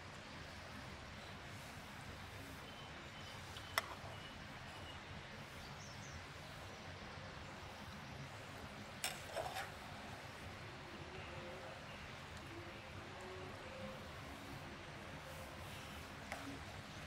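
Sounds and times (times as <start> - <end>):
quiet outdoor hiss: 0.0 - 17.0.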